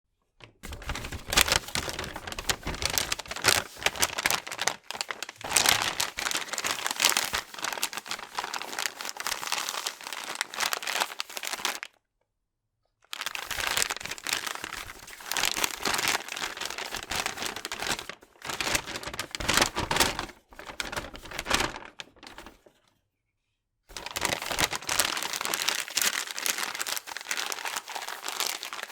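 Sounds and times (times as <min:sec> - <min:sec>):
paper bag crinkling: 0:00.6 - 0:11.9, 0:13.1 - 0:22.7, 0:23.9 - 0:28.9.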